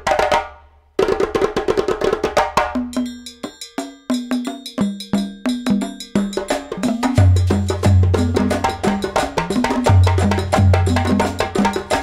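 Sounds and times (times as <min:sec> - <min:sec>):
fast wooden percussion: 0:00.0 - 0:12.0.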